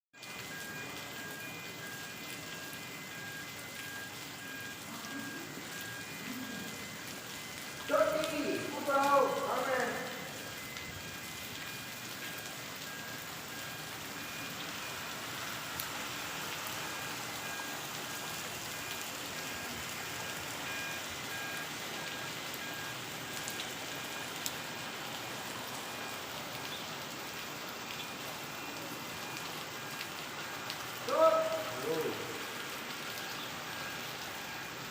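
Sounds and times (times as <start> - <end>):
rain falling: 0.2 - 34.9.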